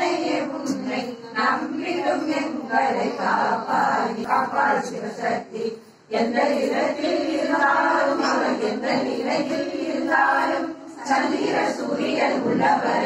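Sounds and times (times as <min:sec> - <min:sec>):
women singing in unison: 0:00.0 - 0:13.0.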